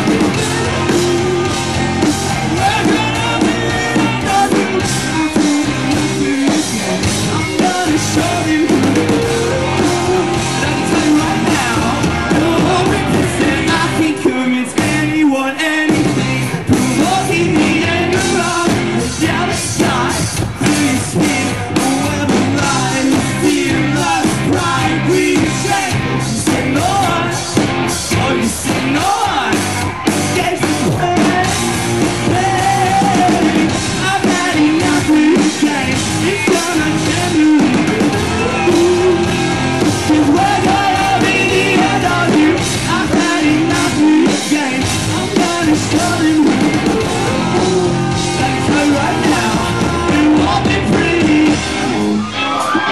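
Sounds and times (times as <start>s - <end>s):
live rock band: 0.0s - 52.9s
person singing: 0.0s - 52.9s.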